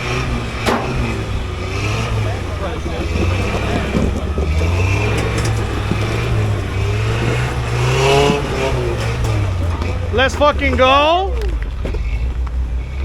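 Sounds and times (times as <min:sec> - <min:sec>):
off-road vehicle engine droning: 0:00.0 - 0:13.0.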